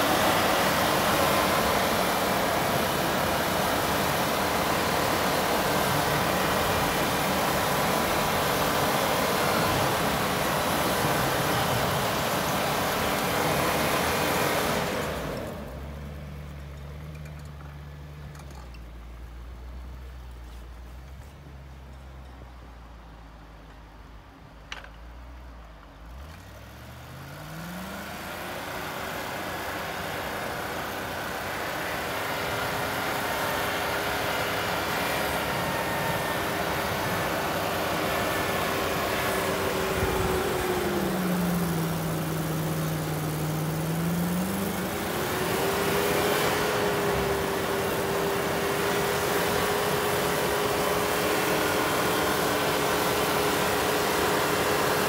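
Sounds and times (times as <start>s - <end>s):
truck engine revving: 0.0s - 16.2s, 26.1s - 55.0s.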